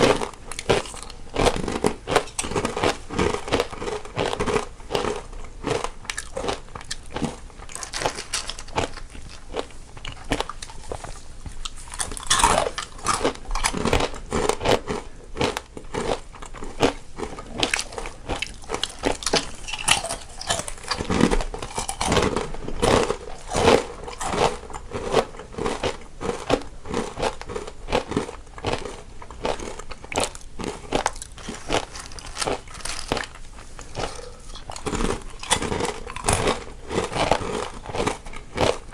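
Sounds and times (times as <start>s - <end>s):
people chewing crunchy snacks: 0.0s - 38.9s.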